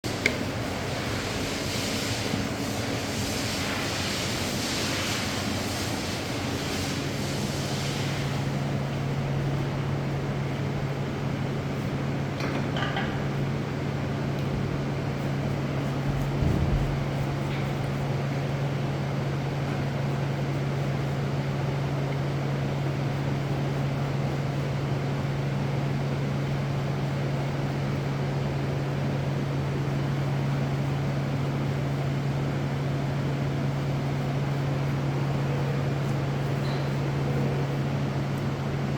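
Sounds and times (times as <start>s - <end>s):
low machinery hum: 0.0s - 38.9s.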